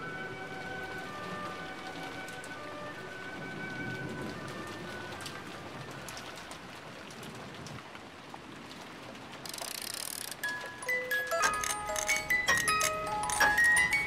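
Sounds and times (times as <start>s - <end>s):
rain-like hiss: 0.0s - 12.0s.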